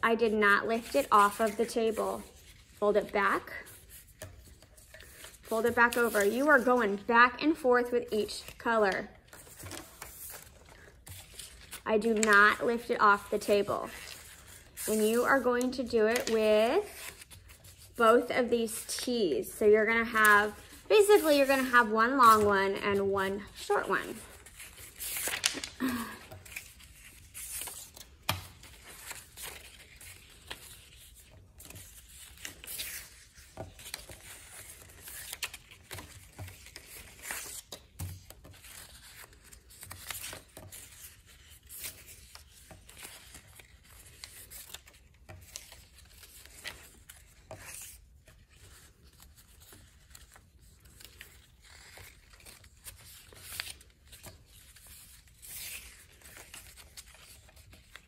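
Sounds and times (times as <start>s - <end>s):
paper rustling and crinkling: 0.0s - 58.0s.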